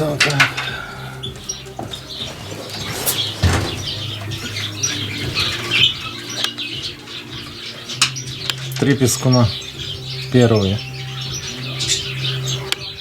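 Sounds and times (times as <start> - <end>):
birds chirping: 0.0 - 13.0
wings fluttering: 0.0 - 13.0.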